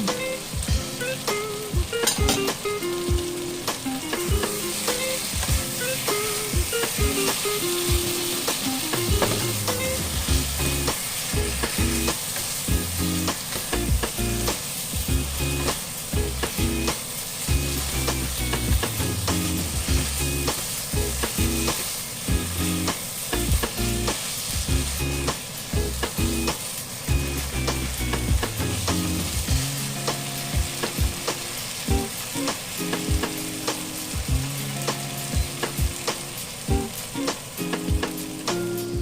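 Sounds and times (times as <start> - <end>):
meat sizzling in a pan: 0.0 - 39.0.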